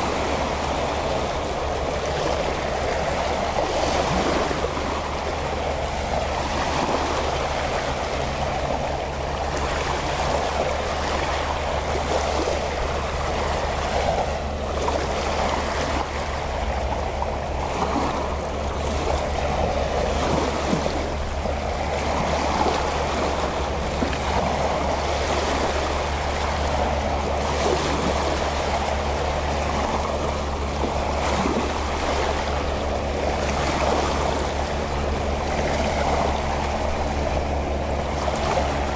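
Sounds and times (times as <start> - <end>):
distant boat motor hum: 0.0 - 38.9
small waves lapping on shore: 0.0 - 38.9.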